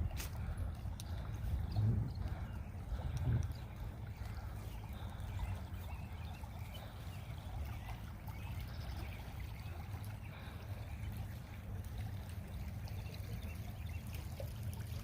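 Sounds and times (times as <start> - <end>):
low steady rumble: 0.0 - 15.0
water trickling: 0.0 - 15.0.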